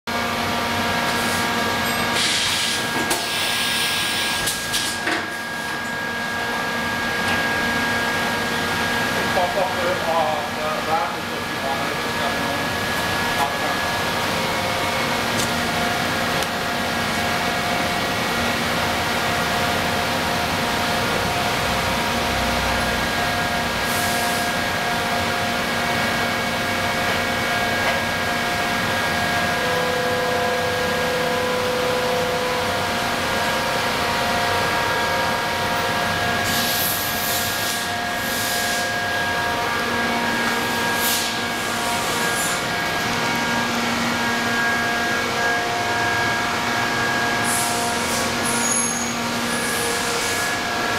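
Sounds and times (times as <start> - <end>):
milling machine whine: 0.1 - 50.9.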